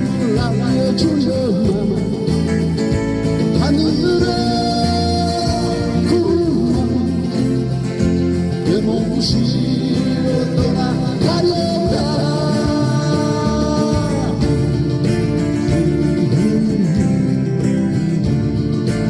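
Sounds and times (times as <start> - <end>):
live band with guitar: 0.0 - 19.0.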